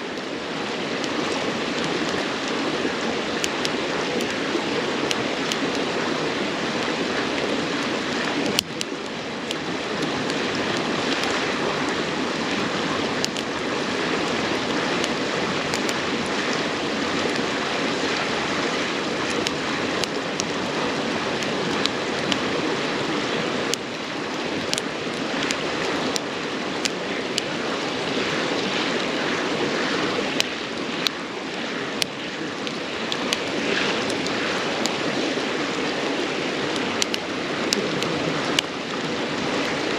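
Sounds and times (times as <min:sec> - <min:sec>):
babbling river: 0:00.0 - 0:39.9
campfire crackling and popping: 0:00.0 - 0:39.9.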